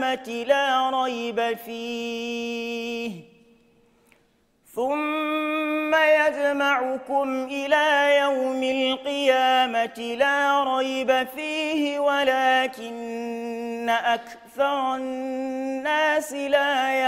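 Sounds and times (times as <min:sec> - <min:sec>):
man chanting melodically: 0:00.0 - 0:03.5, 0:04.7 - 0:17.0.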